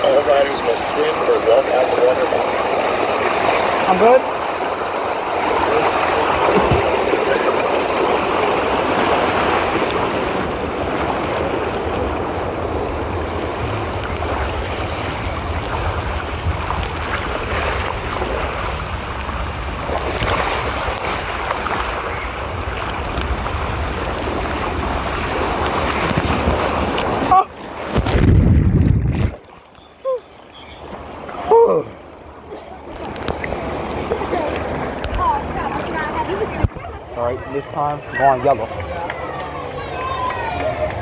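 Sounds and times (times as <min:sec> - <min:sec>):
water rushing down a slide: 0:00.0 - 0:41.0.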